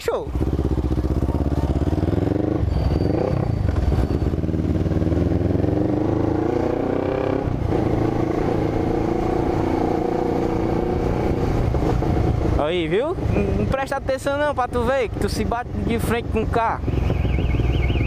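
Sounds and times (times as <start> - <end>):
motorcycle engine revving: 0.2 - 13.7, 15.1 - 18.0.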